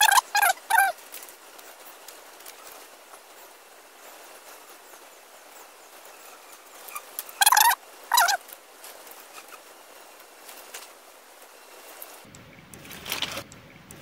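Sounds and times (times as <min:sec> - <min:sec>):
loud wavering bird calls: 0:00.0 - 0:12.8
background hiss: 0:00.0 - 0:14.0
distant bird chirps: 0:00.0 - 0:14.0.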